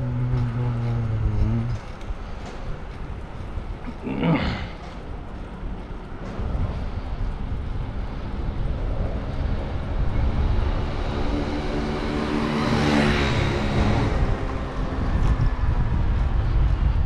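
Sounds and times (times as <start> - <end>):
vehicle engine approaching: 0.0 - 3.2, 6.2 - 17.0
wind on microphone: 0.0 - 4.0, 4.6 - 17.0.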